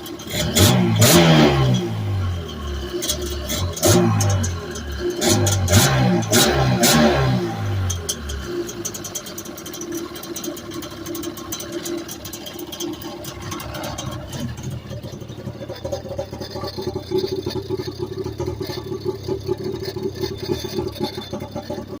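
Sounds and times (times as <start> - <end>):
jet ski two-stroke engine running: 0.0 - 22.0.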